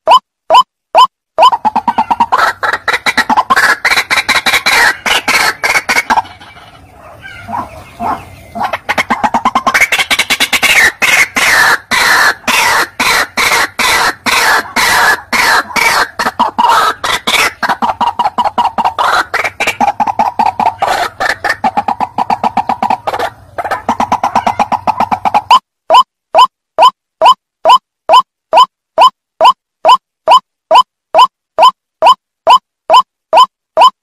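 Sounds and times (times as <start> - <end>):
waterhen calling harsh notes: 0.1 - 29.1.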